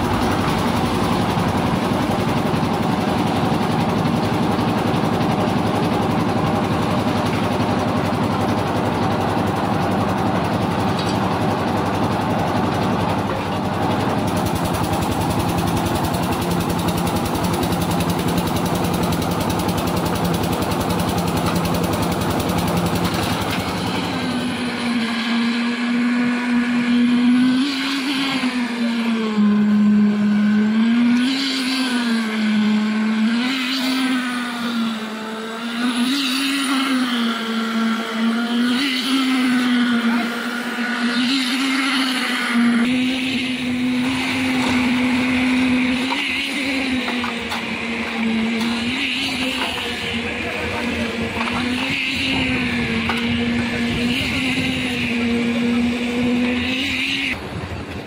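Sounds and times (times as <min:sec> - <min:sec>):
concrete mixer running: 0:00.0 - 0:58.0
concrete vibrator humming: 0:00.0 - 0:58.0.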